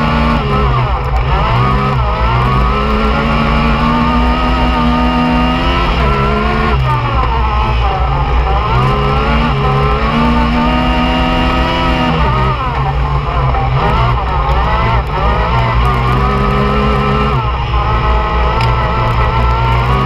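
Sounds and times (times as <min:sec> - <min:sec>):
engine revving hard: 0:00.0 - 0:20.0.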